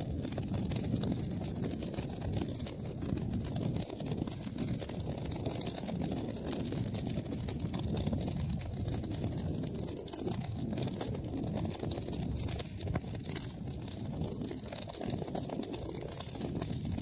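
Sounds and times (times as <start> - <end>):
fire crackling: 0.0 - 17.0
low rumble of flames: 0.0 - 17.0.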